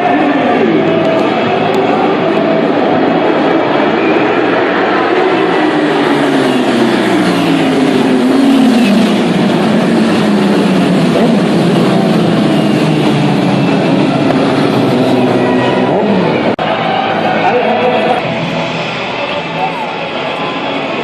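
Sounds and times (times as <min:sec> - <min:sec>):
motorbike engines revving high: 0:00.0 - 0:21.0.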